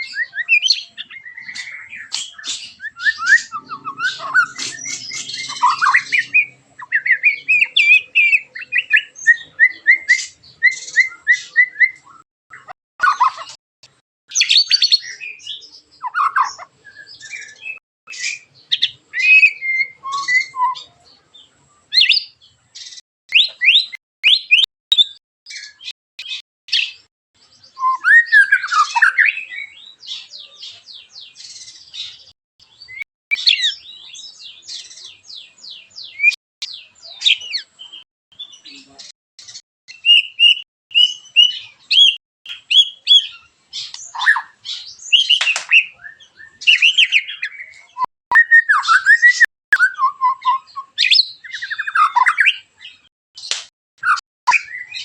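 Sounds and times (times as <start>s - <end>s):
songbird singing whistles: 0.0s - 13.6s, 14.3s - 21.0s, 21.9s - 27.0s, 27.6s - 37.7s, 39.9s - 55.0s.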